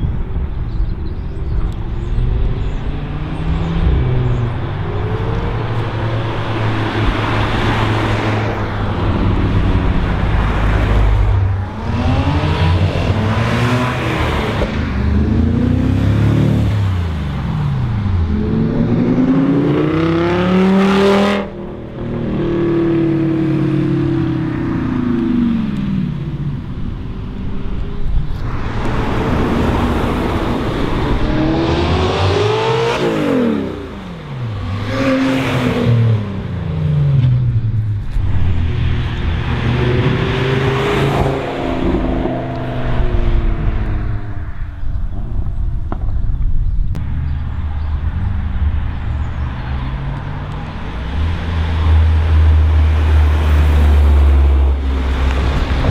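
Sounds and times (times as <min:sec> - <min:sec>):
cars accelerating past: 0:01.9 - 0:46.0, 0:47.0 - 0:55.9.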